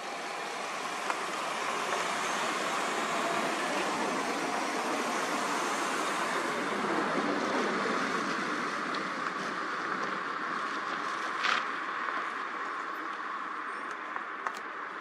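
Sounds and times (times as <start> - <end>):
steady rushing noise: 0.0 - 12.8.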